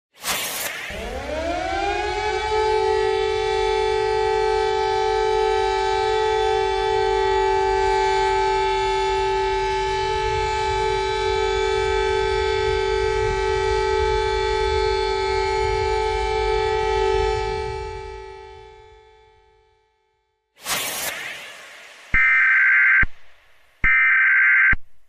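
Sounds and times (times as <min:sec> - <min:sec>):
siren winding up: 0:00.4 - 0:19.2, 0:20.6 - 0:23.2, 0:23.8 - 0:24.8.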